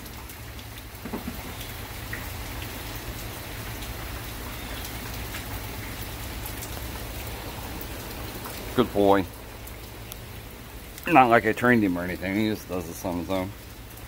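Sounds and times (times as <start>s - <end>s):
raindrop ticks: 0.0s - 14.0s
steady rain hiss: 0.0s - 14.0s.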